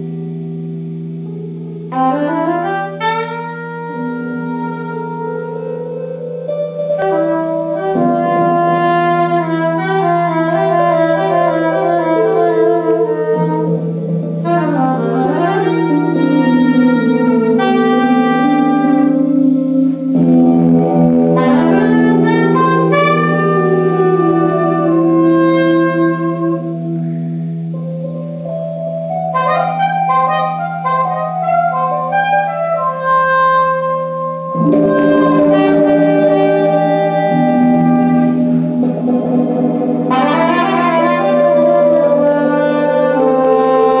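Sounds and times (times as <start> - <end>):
low drone: 0.0 - 32.9, 33.7 - 44.0
electric guitar through effects: 0.0 - 44.0
soprano saxophone: 0.0 - 44.0.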